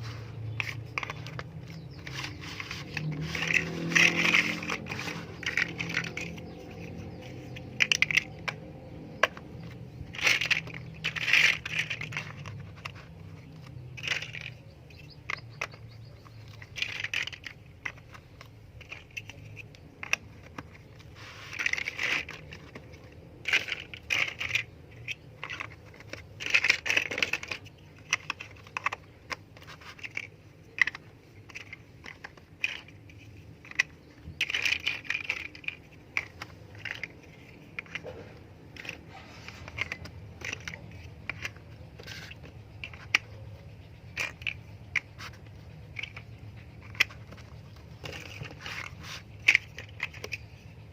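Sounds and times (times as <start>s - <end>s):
plastic bricks clicking: 0.0s - 50.9s.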